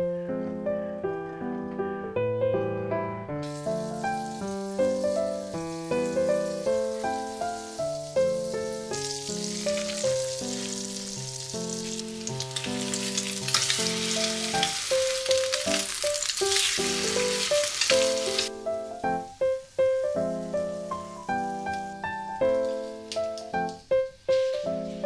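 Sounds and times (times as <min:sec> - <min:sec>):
light background music: 0:00.0 - 0:25.0
bread sizzling in a frying pan: 0:03.4 - 0:25.0.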